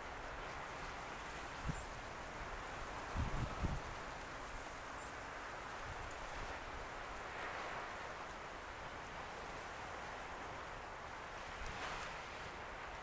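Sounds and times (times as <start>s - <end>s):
wind over choppy water: 0.0s - 13.0s.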